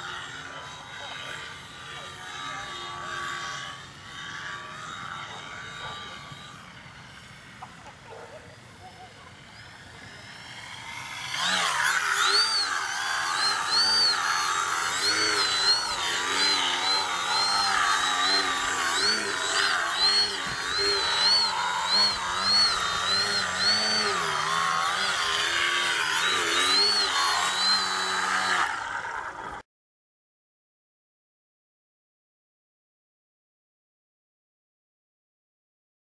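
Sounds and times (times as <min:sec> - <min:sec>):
electric motor and propeller whining: 0:00.0 - 0:29.6.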